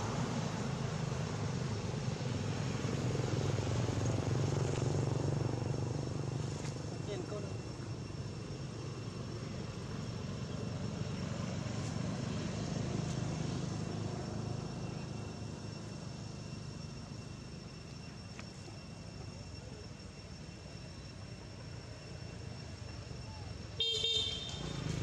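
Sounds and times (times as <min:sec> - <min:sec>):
passing traffic engine rumble: 0:00.0 - 0:25.0.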